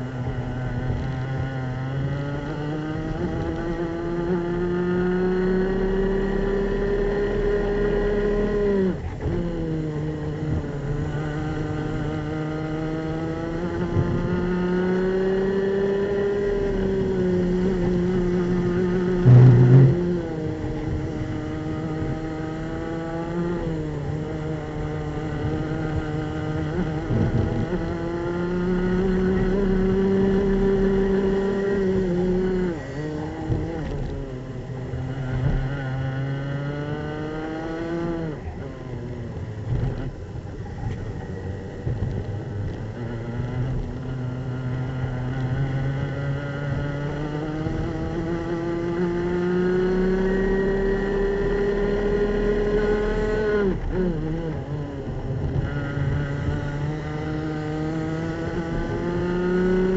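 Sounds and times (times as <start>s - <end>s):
kart engine at full throttle: 0.0s - 59.9s.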